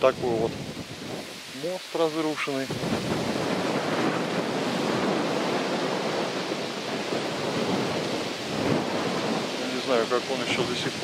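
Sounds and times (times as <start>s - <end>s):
wind blowing over microphone: 0.0s - 11.0s.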